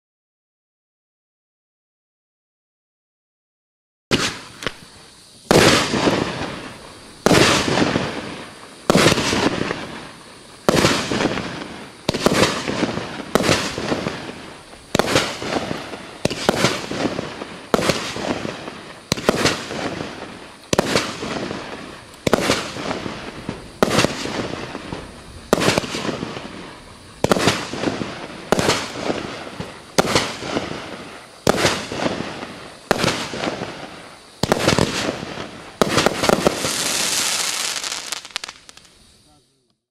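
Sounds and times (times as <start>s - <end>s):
firework shots banging: 4.1s - 38.9s.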